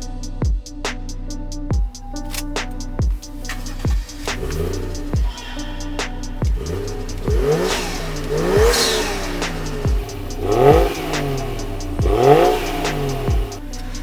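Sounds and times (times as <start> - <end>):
hip-hop beat with kick drums: 0.0 - 14.0
car engine revving: 2.2 - 14.0.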